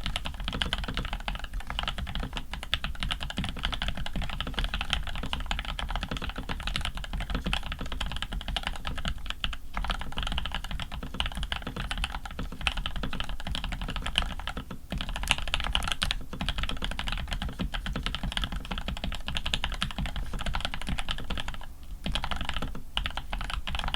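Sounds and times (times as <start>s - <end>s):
fast mechanical keyboard typing: 0.0s - 23.9s.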